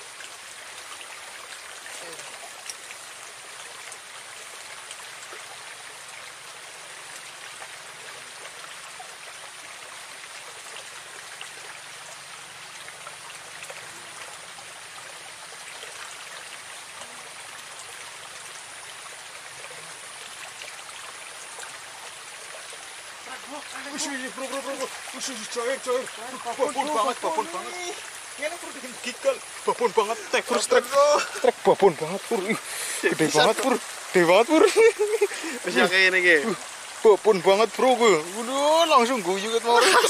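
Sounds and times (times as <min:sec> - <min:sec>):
water rushing along a ditch: 0:00.0 - 0:40.0.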